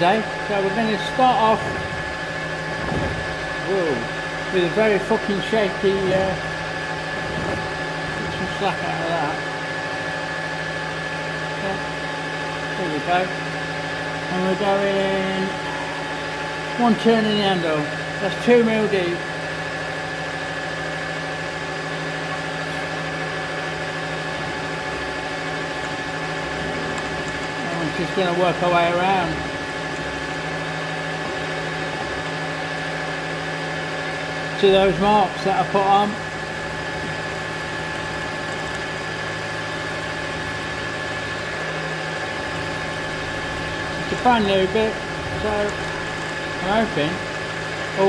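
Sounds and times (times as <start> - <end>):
milling machine cutting metal: 0.0 - 48.0.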